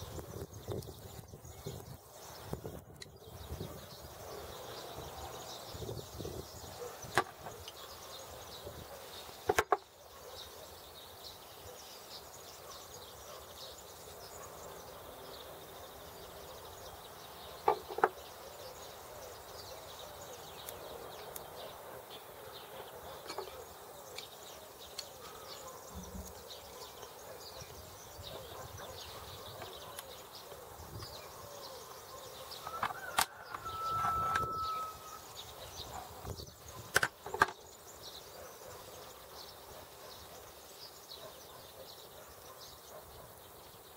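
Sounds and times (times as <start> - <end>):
outdoor background noise: 0.0 - 43.9.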